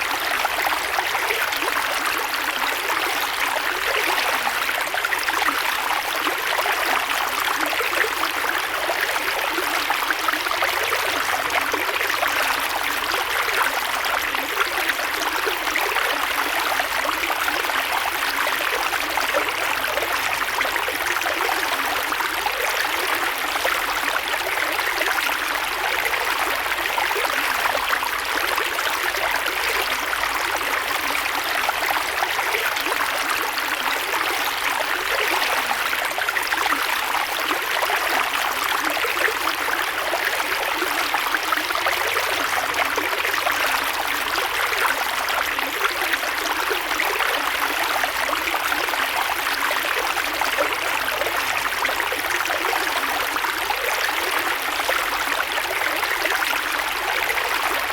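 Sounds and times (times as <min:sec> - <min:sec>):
creek water flowing over rocks: 0:00.0 - 0:57.9.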